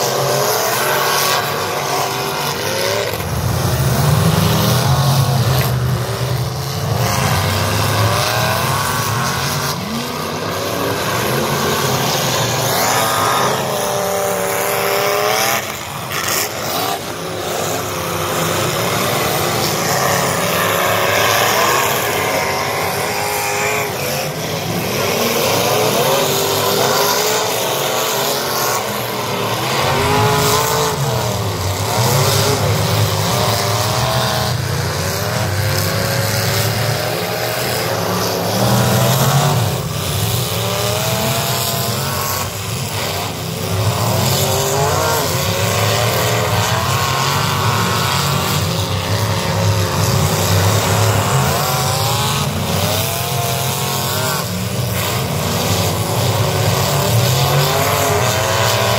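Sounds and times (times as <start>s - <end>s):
car engines revving hard: 0.0s - 58.9s.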